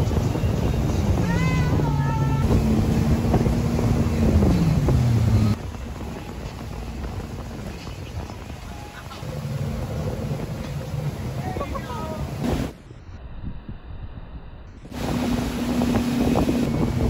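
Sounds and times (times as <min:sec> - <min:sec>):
boat engine running: 0:00.0 - 0:12.7, 0:14.9 - 0:17.0
rushing water: 0:00.0 - 0:12.8, 0:14.9 - 0:17.0
wind buffeting microphone: 0:00.0 - 0:17.0.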